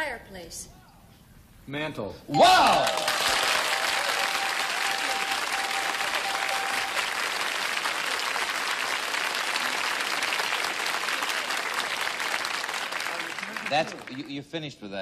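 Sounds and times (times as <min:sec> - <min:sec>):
studio audience applauding: 0:02.4 - 0:14.6.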